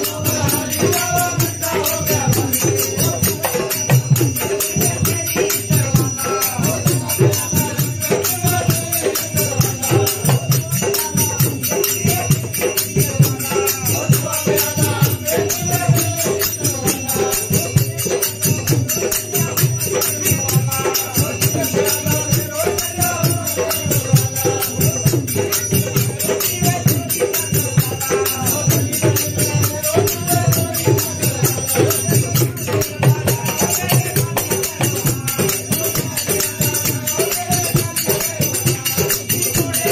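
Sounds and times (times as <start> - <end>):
barrel drum beat: 0.0 - 39.9
men singing together: 0.0 - 39.9
tabla: 0.0 - 39.9.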